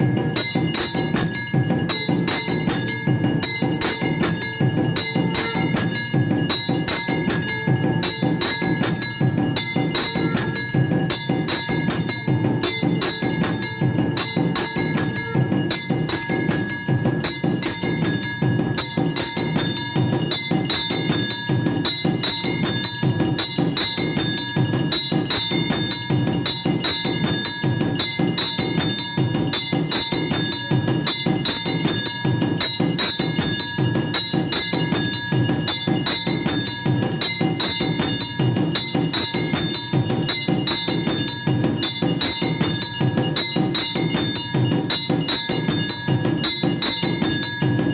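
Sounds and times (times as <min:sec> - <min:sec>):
fast percussion beating: 0:00.0 - 0:47.9
temple bells ringing: 0:00.0 - 0:47.9.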